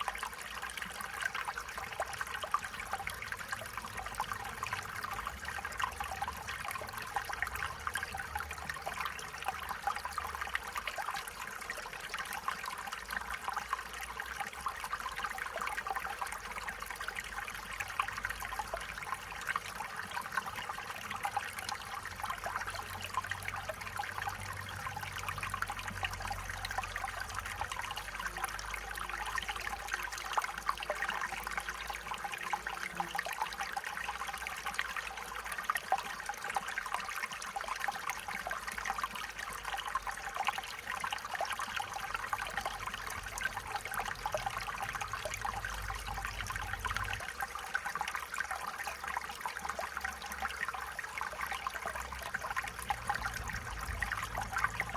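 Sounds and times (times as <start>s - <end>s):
stream trickling over stones: 0.0s - 54.9s.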